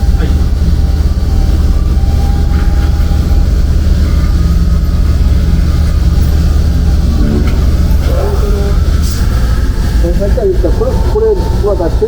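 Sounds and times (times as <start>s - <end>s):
low machine rumble: 0.0s - 12.0s.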